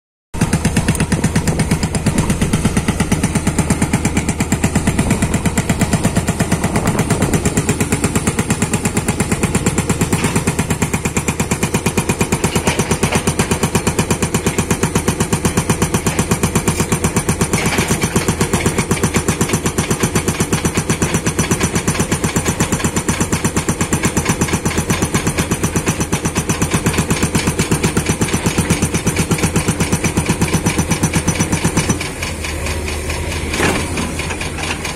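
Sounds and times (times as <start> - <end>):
diesel engine running: 0.4 - 34.9
hydraulic breaker hammering rock: 0.4 - 34.9.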